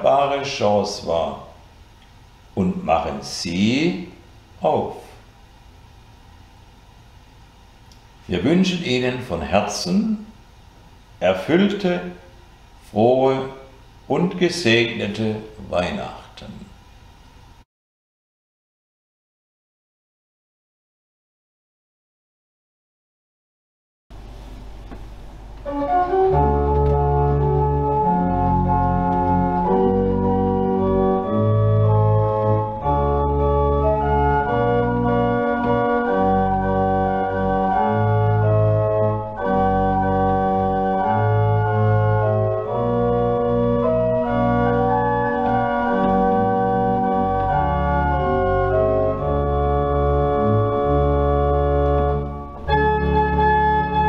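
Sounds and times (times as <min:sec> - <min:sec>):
pipe organ playing chords: 0:00.0 - 0:17.2, 0:24.1 - 0:54.0.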